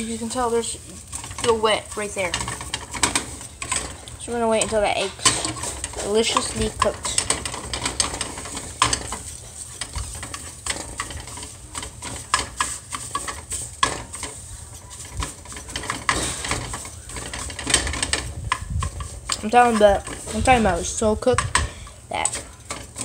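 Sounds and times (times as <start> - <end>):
eggs sizzling: 0.0 - 23.0
spatula scraping frying pan: 0.0 - 23.0.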